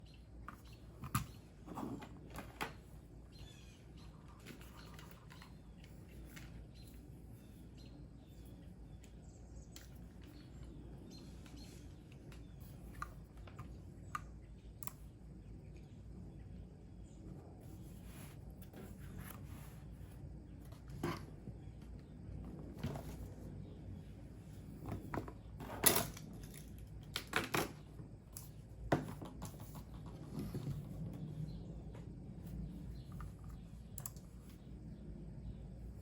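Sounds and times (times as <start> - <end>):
faint birds chirping: 0.0 - 36.0.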